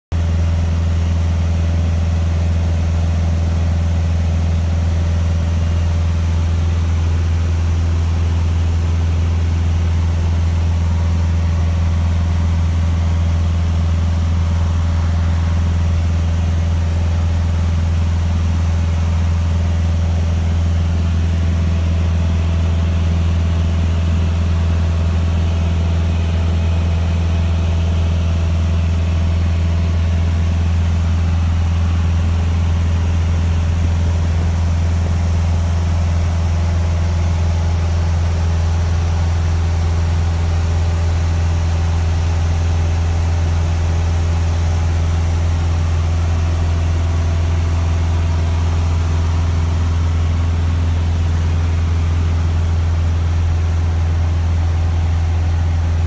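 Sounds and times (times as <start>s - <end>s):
airplane engine and propeller drone: 0.2s - 56.0s.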